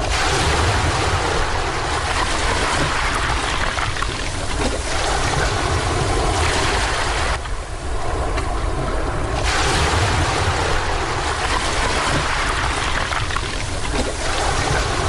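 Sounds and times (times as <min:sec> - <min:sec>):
surf washing up beach: 0:00.0 - 0:15.0.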